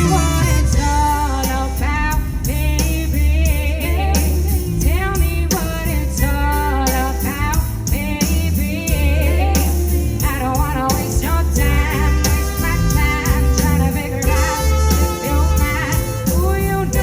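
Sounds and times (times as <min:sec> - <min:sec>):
amplified accompaniment with heavy bass: 0:00.0 - 0:17.0
woman singing live: 0:00.0 - 0:17.0.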